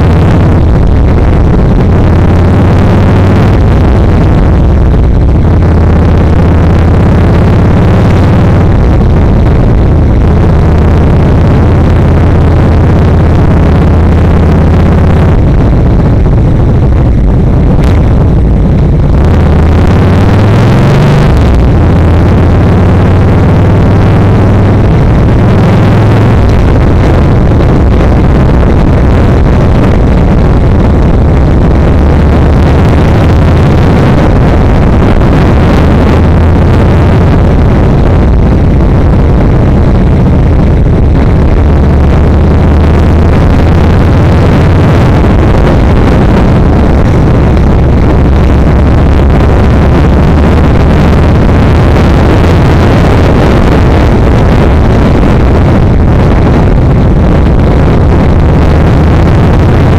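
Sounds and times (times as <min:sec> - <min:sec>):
motorcycle engine running: 0:00.0 - 0:57.4
wind noise: 0:00.0 - 0:59.9.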